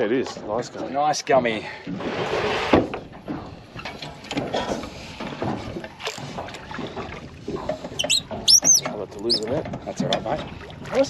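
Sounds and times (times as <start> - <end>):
water lapping against boat: 0.0 - 11.0
wind: 0.0 - 11.0.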